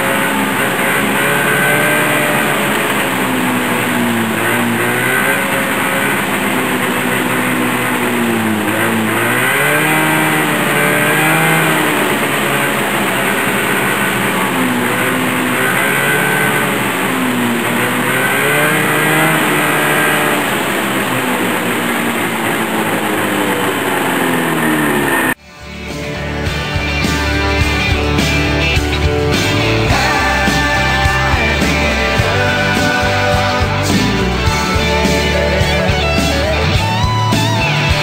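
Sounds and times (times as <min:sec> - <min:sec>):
two-stroke engine revving: 0:00.0 - 0:38.0.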